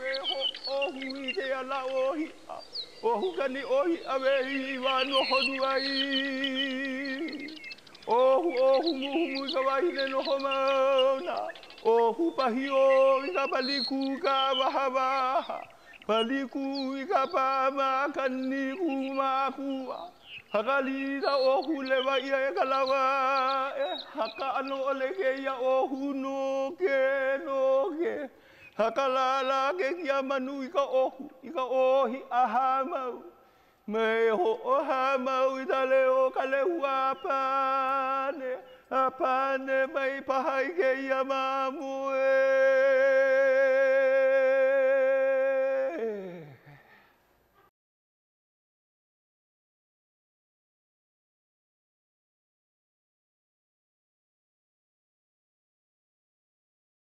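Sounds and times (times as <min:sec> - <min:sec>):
person chanting held notes: 0:00.0 - 0:46.9.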